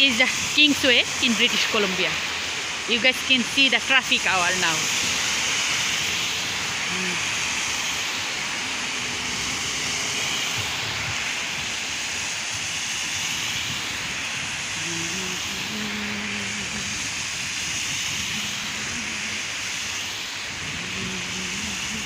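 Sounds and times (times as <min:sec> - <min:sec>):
heavy rain hissing: 0:00.0 - 0:22.0
tyres swishing on wet street: 0:00.0 - 0:22.0.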